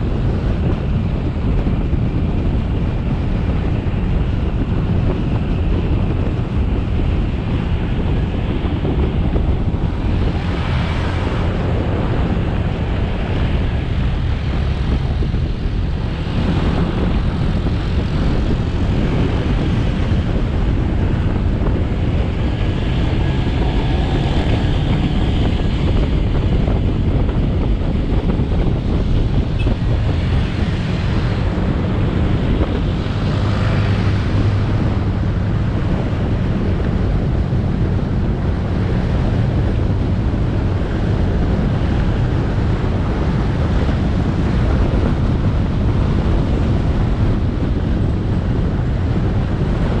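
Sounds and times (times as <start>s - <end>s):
road noise: 0.0s - 50.0s
wind buffeting microphone: 0.0s - 50.0s.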